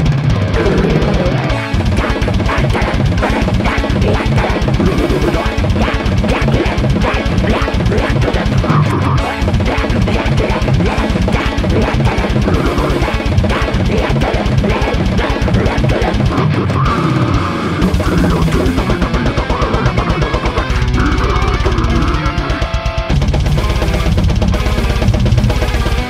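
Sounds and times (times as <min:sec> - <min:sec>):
distorted guitars: 0:00.0 - 0:26.0
rapid double-kick drumming: 0:00.9 - 0:16.4, 0:17.8 - 0:26.0.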